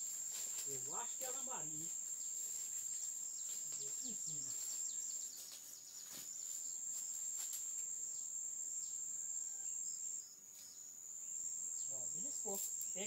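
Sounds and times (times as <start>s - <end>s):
insects chirring: 0.0s - 13.0s
faint bird chirps: 1.7s - 13.0s.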